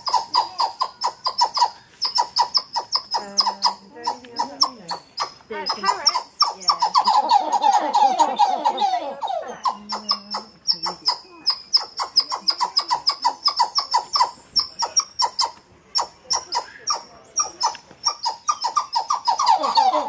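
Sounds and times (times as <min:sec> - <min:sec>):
tamarins chirping: 0:00.0 - 0:20.0.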